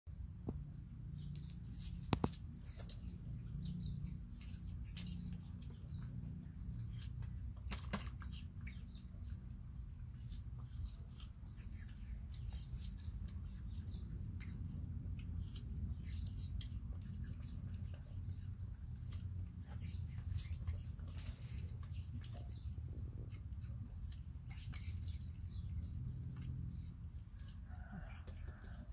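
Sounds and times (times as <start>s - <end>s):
steady low hum: 0.1s - 28.9s
monkeys chewing food: 1.1s - 28.9s.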